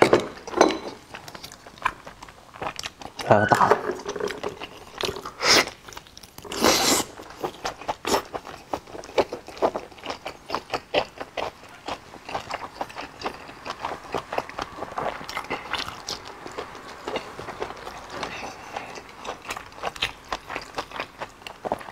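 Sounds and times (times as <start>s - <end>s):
chewing and biting: 1.0s - 3.3s, 4.0s - 21.9s.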